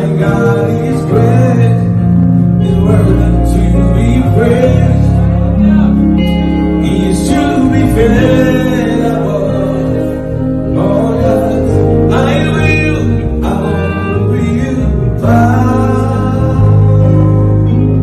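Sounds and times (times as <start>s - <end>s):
bass line: 0.0s - 18.0s
live gospel music: 0.0s - 18.0s.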